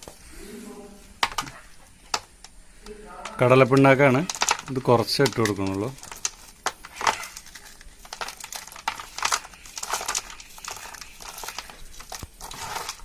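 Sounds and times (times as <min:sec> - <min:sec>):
packet crinkling and rustling: 0:01.2 - 0:02.6, 0:03.2 - 0:13.0.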